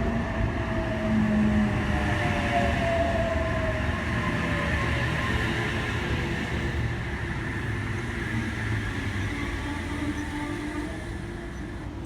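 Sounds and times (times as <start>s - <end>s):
electric train rumble and whine: 0.0s - 12.0s.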